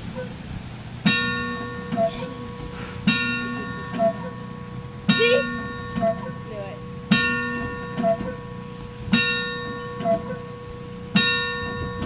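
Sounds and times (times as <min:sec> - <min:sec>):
cuckoo clock chime striking: 0:01.0 - 0:12.0.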